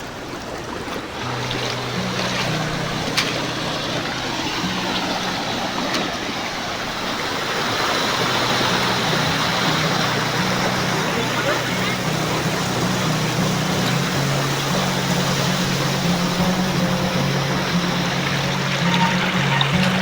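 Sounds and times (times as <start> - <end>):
waterfall roaring: 0.0 - 20.0
low sustained tones: 1.0 - 20.0.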